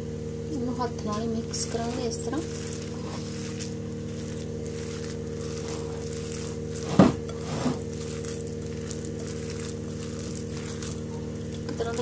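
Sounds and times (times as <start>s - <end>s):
low hum: 0.0s - 12.0s
hand squishing food mixture: 1.1s - 12.0s.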